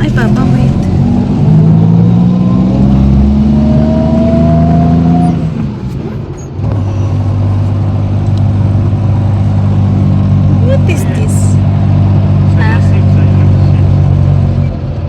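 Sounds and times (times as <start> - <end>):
vehicle engine pulling uphill: 0.0 - 15.0.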